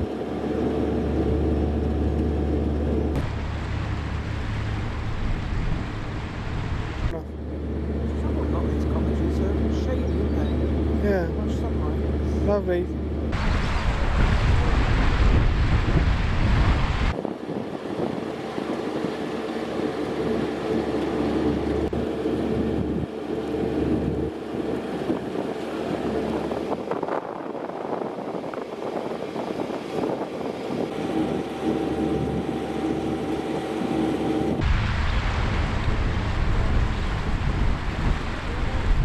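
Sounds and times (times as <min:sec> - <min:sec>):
boat engine humming: 0:00.0 - 0:39.0
wind buffeting microphone: 0:00.0 - 0:39.0.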